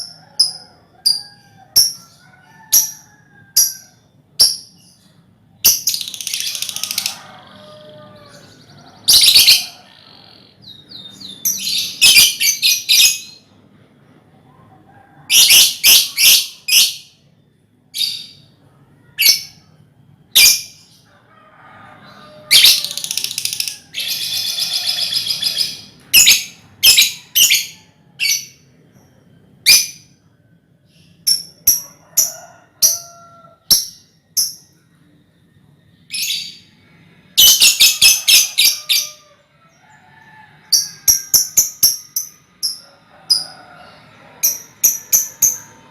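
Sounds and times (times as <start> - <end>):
lovebirds chirping and trilling: 0.0 - 17.3, 17.9 - 45.9.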